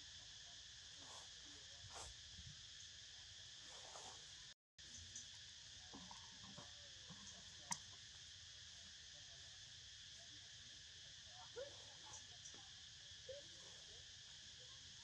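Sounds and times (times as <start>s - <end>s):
faint drone of insects: 0.0s - 15.0s.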